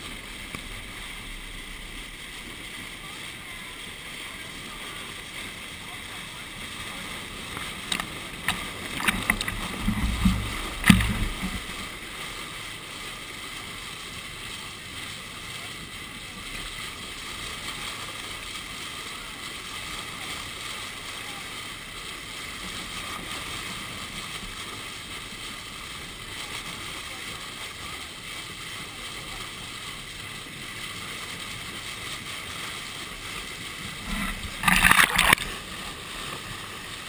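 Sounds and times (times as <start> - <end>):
bow wave splashing: 0.0 - 37.0
rushing water: 0.0 - 37.0.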